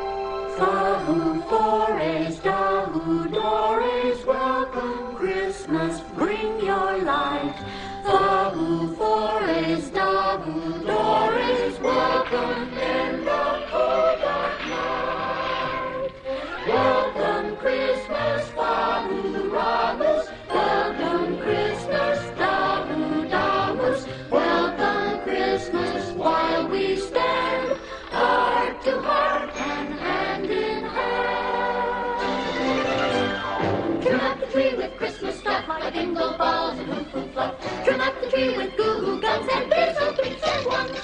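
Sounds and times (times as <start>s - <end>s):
choir singing: 0.0s - 41.0s
orchestral accompaniment: 0.0s - 41.0s.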